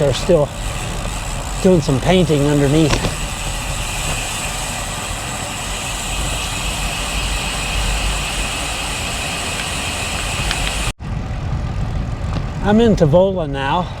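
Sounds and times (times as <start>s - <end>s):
bicycle tyre noise: 0.0s - 14.0s
wind rush on microphone: 0.0s - 14.0s.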